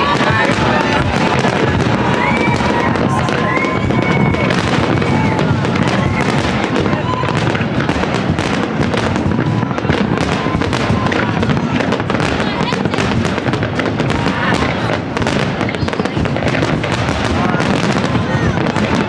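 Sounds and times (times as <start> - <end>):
fireworks crackling: 0.0 - 19.0
fireworks whistling: 0.0 - 19.0.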